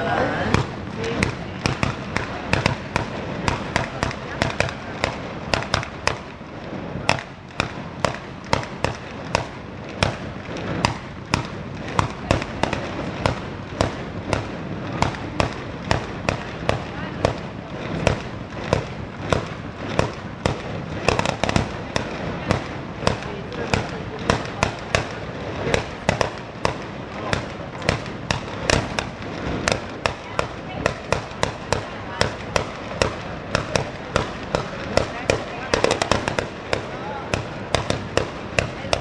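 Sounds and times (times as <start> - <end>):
mortars firing sharp bangs: 0.0 - 39.0
steady noisy hiss: 0.0 - 39.0.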